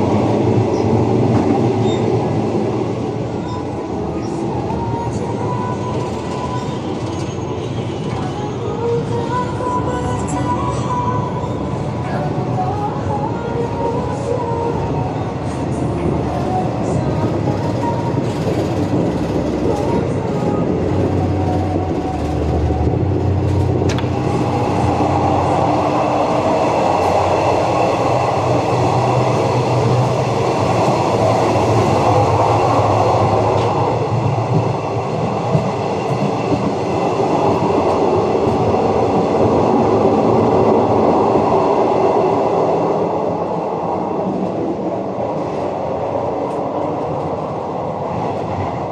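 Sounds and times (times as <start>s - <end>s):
train wheels on rail: 0.0s - 10.0s, 11.4s - 48.9s.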